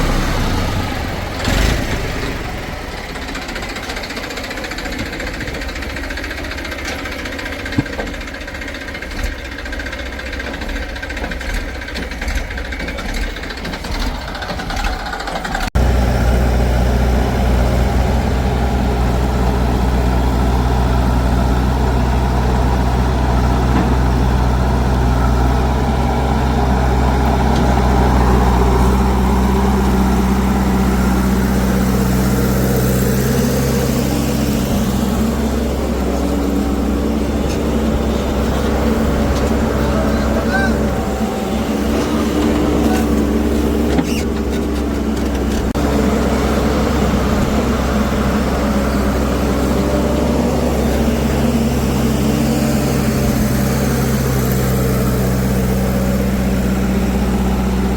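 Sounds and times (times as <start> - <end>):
closer engine running: 0.0 - 57.9
diesel engine running: 0.0 - 57.9
engine knocks: 0.0 - 57.9.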